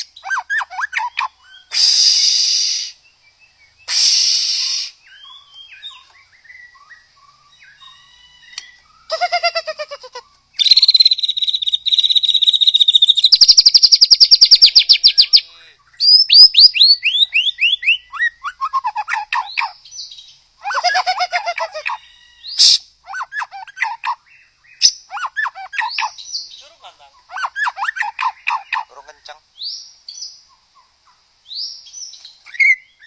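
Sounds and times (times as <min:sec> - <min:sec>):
bird singing varied song: 0:00.0 - 0:09.5, 0:10.2 - 0:33.0.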